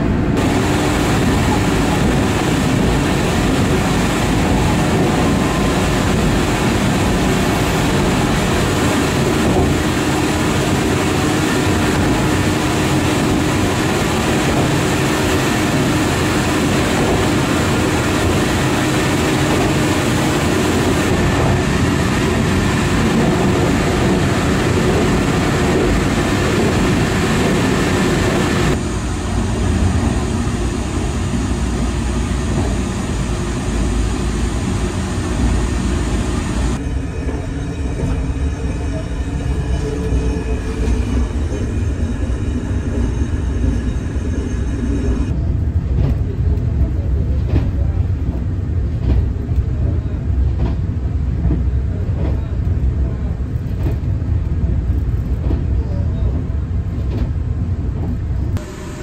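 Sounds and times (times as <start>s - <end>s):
wheels rumbling on track: 0.0s - 59.0s.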